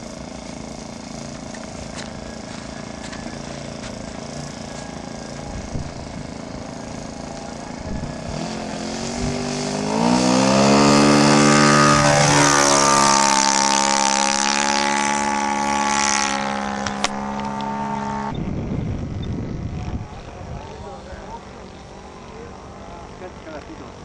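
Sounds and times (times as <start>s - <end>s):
propeller aircraft engine: 0.0s - 24.0s.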